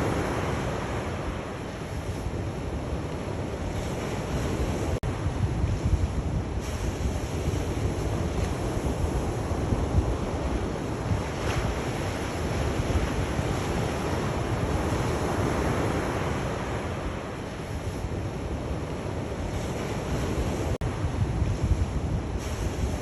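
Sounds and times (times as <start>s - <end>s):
sea waves washing in: 0.0s - 23.0s.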